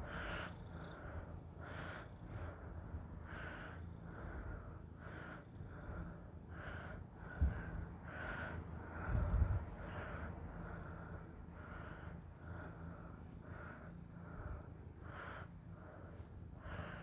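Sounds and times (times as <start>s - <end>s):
heavy breathing: 0.0s - 17.0s.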